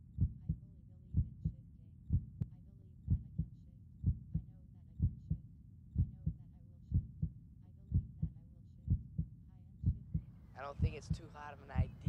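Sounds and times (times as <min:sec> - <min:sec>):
faint low rumble: 0:00.0 - 0:12.0
heartbeat thumps: 0:00.2 - 0:00.6, 0:01.2 - 0:05.4, 0:06.0 - 0:12.0.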